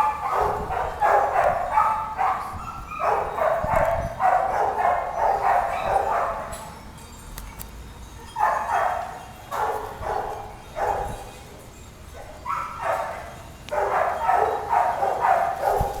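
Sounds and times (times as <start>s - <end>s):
dog barking: 0.0s - 6.6s, 8.4s - 11.3s, 12.2s - 16.0s.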